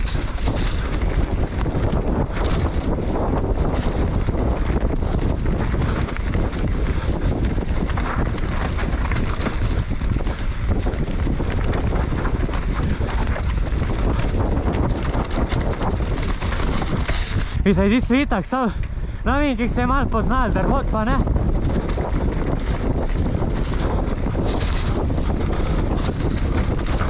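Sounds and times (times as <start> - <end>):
bike rattling and knocking: 0.0 - 17.6, 18.6 - 27.0
tyres rolling over dirt trail: 0.0 - 27.0
wind rushing over microphone: 0.0 - 27.0.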